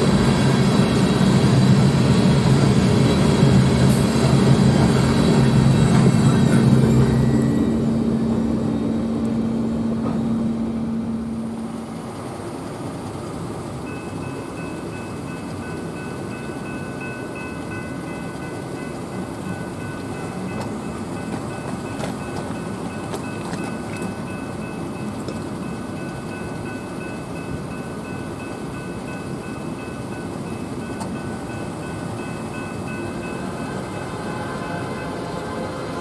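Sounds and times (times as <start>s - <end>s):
freight train rumble: 0.0s - 36.0s
railroad crossing bell ringing: 2.4s - 9.7s, 13.6s - 36.0s.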